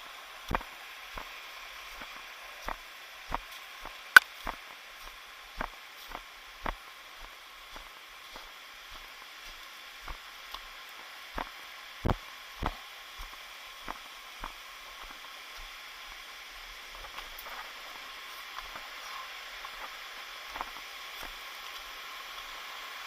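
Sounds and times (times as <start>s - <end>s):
steady hiss: 0.0s - 23.0s
footsteps on a trail: 0.5s - 16.3s, 16.9s - 21.5s.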